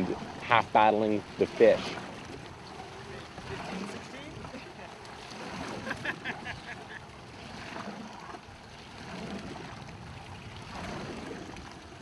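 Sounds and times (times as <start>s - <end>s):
sea water rushing: 0.0s - 12.0s.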